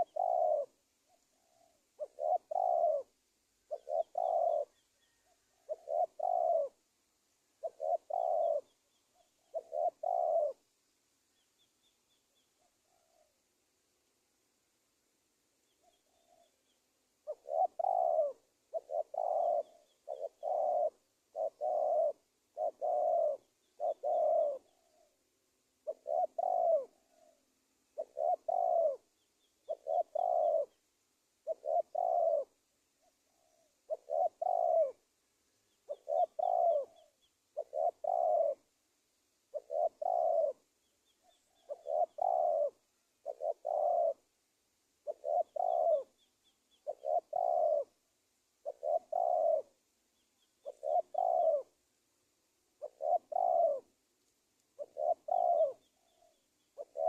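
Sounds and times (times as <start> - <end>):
small bird chirping: 0.0 - 6.8, 7.6 - 13.4, 15.6 - 25.2, 25.8 - 38.7, 39.5 - 44.3, 45.0 - 48.0, 48.6 - 51.8, 52.8 - 57.0
dove cooing: 0.0 - 6.9, 7.5 - 10.7, 11.4 - 13.5, 15.6 - 38.8, 39.5 - 44.4, 45.0 - 48.0, 48.6 - 49.8, 50.4 - 51.8, 52.8 - 54.0, 54.7 - 57.0.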